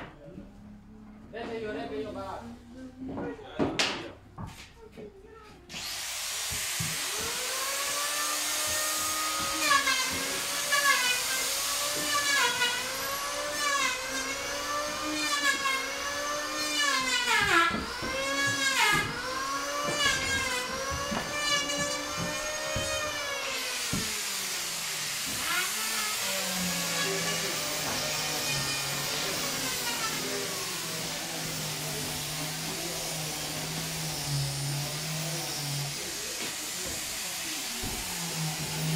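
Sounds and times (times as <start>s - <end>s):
power tool cutting wood: 5.7s - 38.9s.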